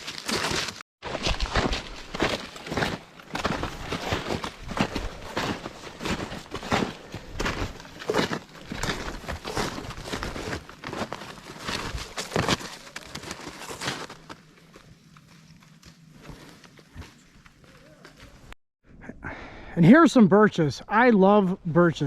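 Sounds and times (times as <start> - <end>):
snowshoe footsteps crunching in snow: 0.0 - 18.5.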